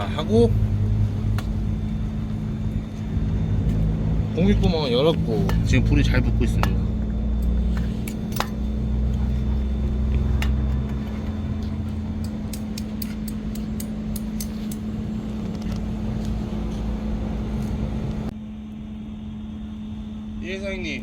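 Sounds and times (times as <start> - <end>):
fire crackling in stove: 0.0 - 18.3
deep rumble: 0.0 - 20.4
steady low hum: 0.0 - 21.0.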